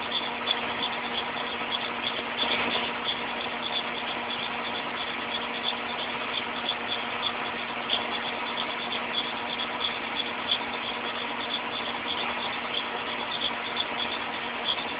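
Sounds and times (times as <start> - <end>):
constant machine hum: 0.0 - 14.9
small irregular ticks: 0.0 - 14.9.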